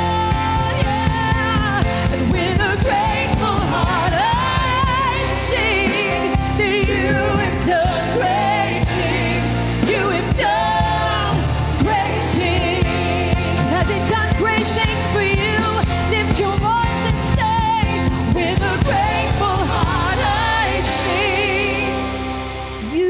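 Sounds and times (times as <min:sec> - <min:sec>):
woman singing with vibrato: 0:00.0 - 0:22.2
band with bass and percussion: 0:00.0 - 0:23.0.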